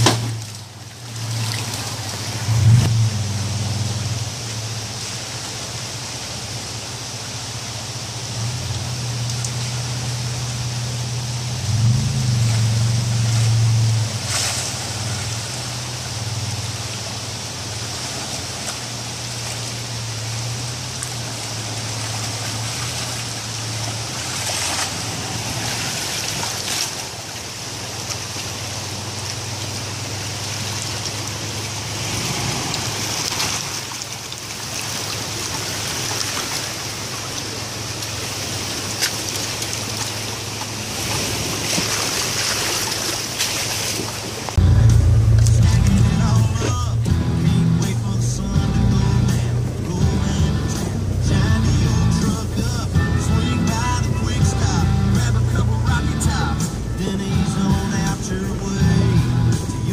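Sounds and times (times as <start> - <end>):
truck engine at low revs: 0.0 - 59.9
water flowing and sloshing: 0.0 - 59.9.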